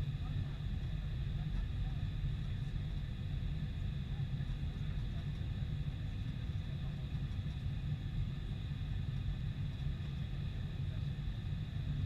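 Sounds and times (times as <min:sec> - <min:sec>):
airliner rumble with high whine: 0:00.0 - 0:12.0.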